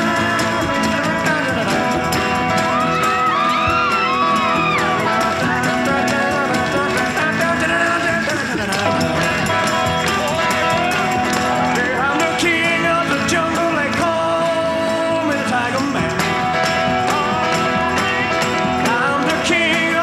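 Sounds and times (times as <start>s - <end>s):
person singing: 0.0s - 20.0s
rock and roll music: 0.0s - 20.0s.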